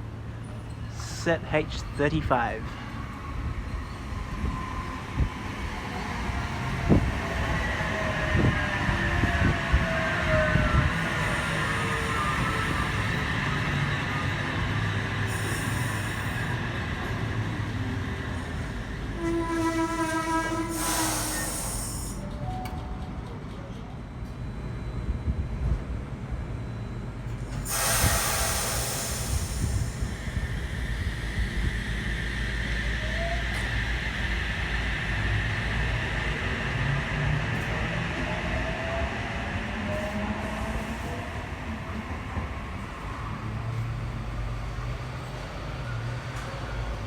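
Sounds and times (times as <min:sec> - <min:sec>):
electric train rumbling: 0:00.0 - 0:47.0.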